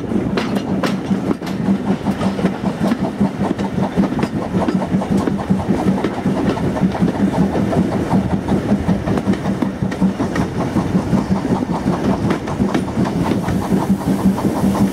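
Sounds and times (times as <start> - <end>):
wheels clattering over rail joints: 0.0 - 13.8
train rumble: 0.0 - 14.9.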